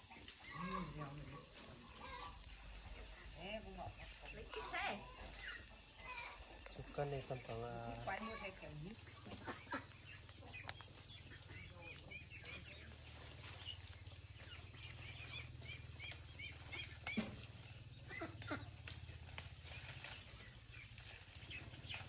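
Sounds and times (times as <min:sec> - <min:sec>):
bird chirping: 0:00.0 - 0:18.3.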